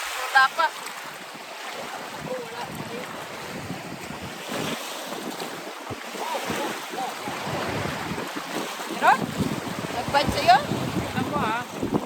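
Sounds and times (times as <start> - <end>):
water lapping at shore: 0.0 - 12.0
wind buffeting microphone: 1.8 - 12.0.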